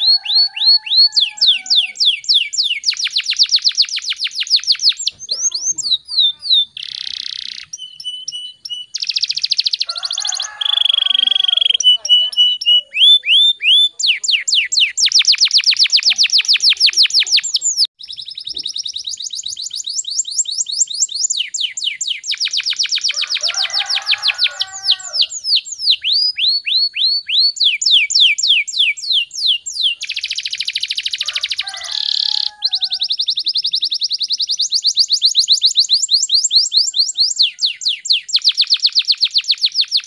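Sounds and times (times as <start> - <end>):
canary trilling song: 0.0 - 40.0
harsh buzzy birdsong: 0.0 - 40.0.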